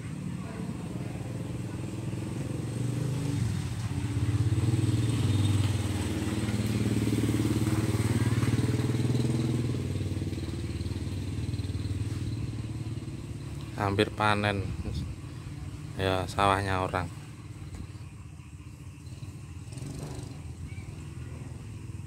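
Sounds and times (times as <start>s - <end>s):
small engine puttering: 0.5s - 22.0s.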